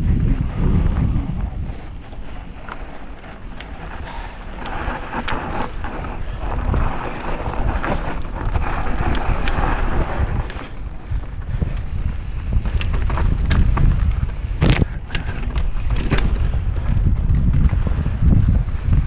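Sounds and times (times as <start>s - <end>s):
bike clicks and rattles: 0.0s - 19.0s
wind buffeting microphone: 0.0s - 19.0s
tyres running over dirt and stones: 0.2s - 18.6s.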